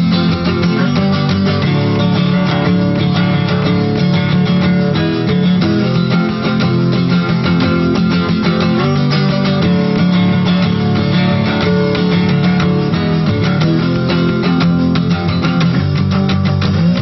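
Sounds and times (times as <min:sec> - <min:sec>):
guitar strumming and plucking: 0:00.0 - 0:17.0.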